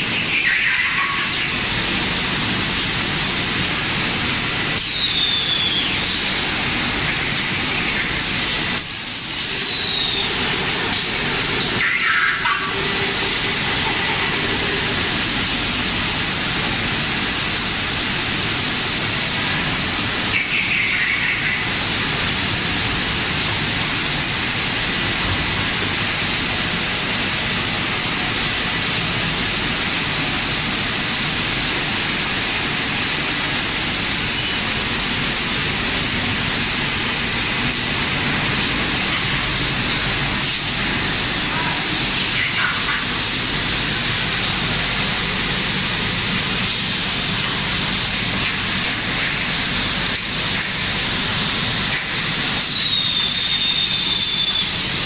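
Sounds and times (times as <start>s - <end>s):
constant high whine: 0.0s - 55.0s
steady machine noise: 0.0s - 55.0s.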